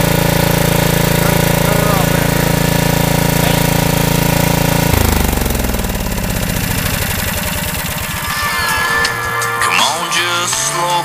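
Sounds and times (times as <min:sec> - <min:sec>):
small steam engine running: 0:00.0 - 0:10.5.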